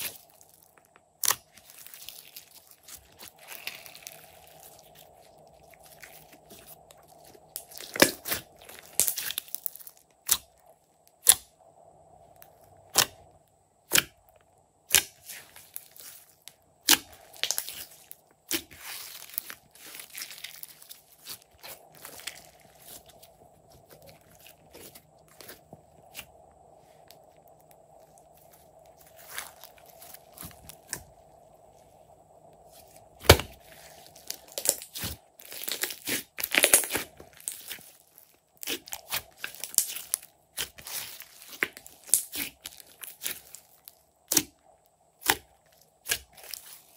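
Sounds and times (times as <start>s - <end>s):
wet crackling: 0.0s - 11.4s, 12.4s - 46.9s
faint steady hum: 0.0s - 46.9s.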